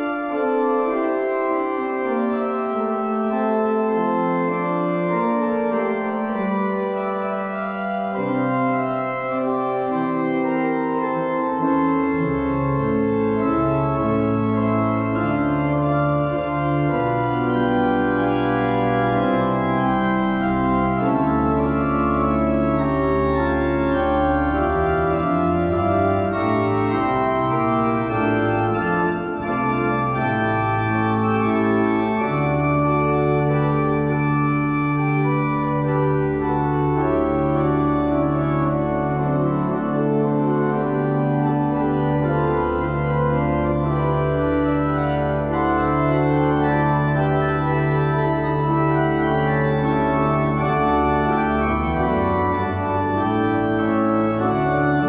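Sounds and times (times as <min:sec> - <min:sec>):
organ playing a hymn: 0:00.0 - 0:55.0.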